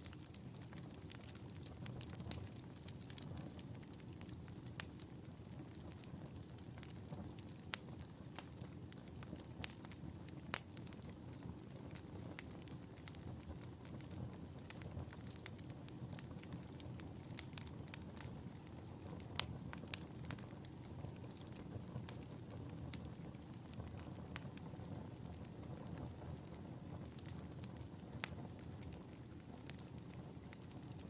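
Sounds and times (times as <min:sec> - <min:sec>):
fire crackling and popping: 0:00.0 - 0:31.0
low fire rumble: 0:00.0 - 0:31.0.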